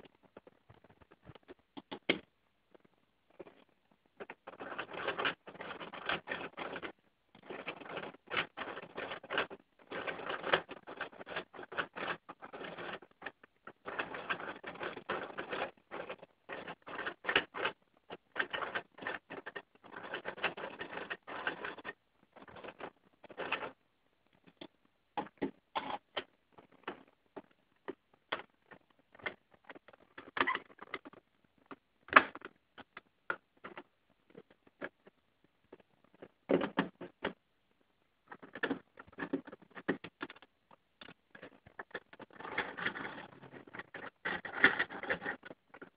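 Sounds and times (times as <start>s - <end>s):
plastic model engine clicking and rattling: 0.0s - 23.8s, 24.4s - 37.4s, 38.2s - 45.9s.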